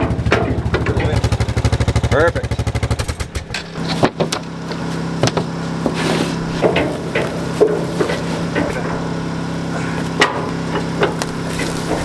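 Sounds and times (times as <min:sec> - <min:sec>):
equipment knocks and clunks: 0:00.0 - 0:01.9, 0:03.0 - 0:09.2, 0:10.1 - 0:12.0
motor humming: 0:00.0 - 0:12.0.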